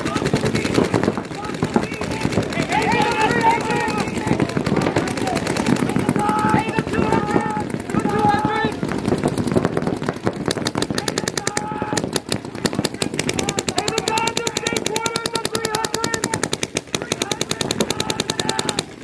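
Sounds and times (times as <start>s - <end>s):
paintball markers firing: 0.0s - 19.0s.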